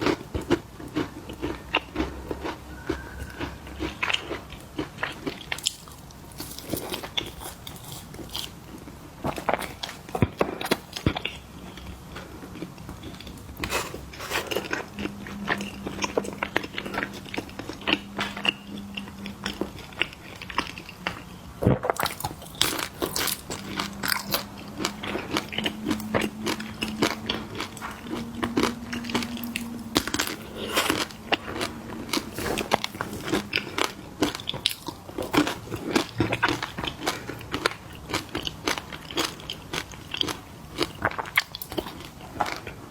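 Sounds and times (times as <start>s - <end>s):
crunching crisp snacks: 0.0s - 42.8s
faint low hum: 0.0s - 42.9s.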